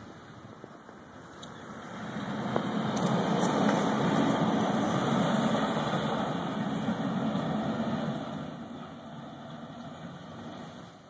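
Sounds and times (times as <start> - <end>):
vehicle driving past: 1.6 - 11.0.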